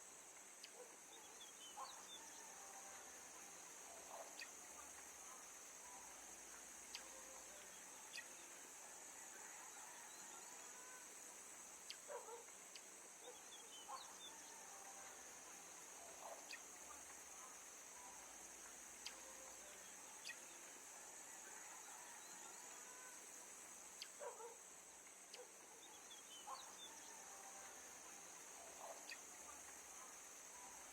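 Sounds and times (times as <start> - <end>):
high-pitched hiss: 0.0 - 30.9.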